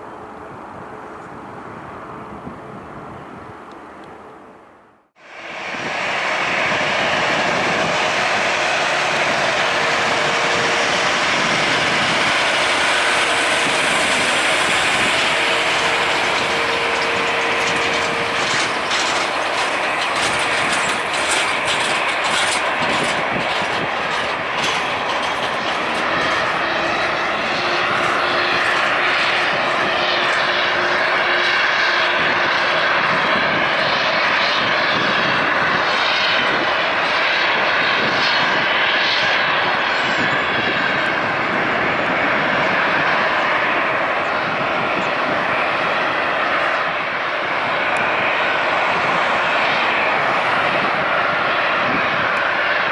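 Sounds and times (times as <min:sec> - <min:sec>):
jet engines of passing airliner: 0:00.0 - 0:52.9.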